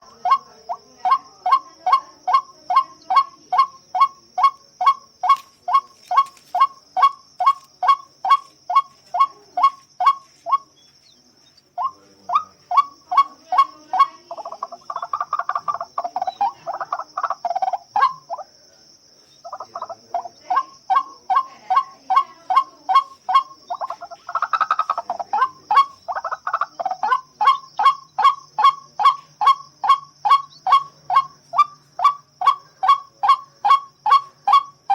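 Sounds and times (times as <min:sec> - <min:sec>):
waterhen calling: 0:00.0 - 0:18.5, 0:19.3 - 0:34.9.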